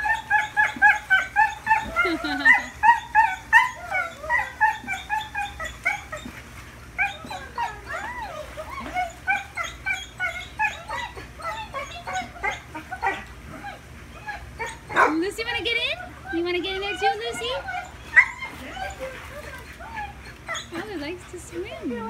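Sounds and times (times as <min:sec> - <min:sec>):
dog whining and yelping: 0:00.0 - 0:15.1, 0:15.9 - 0:21.0.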